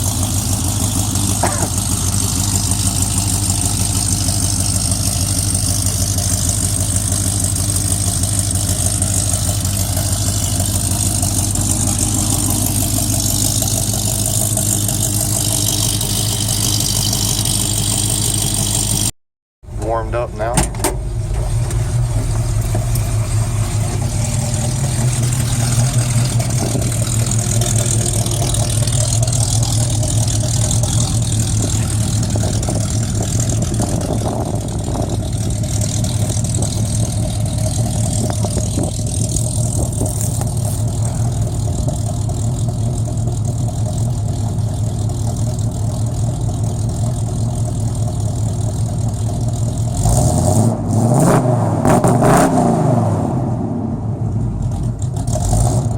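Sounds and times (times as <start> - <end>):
loud car engine idling: 0.0 - 52.0, 54.0 - 55.9.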